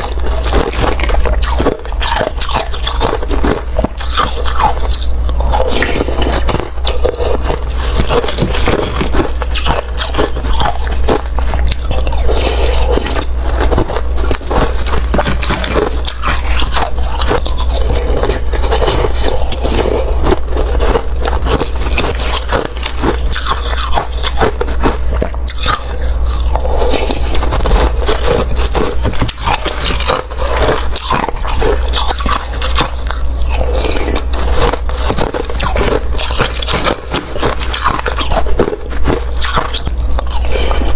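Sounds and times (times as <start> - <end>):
biting and crunching wet ice: 0.0 - 40.9
steady low hum: 0.0 - 40.9.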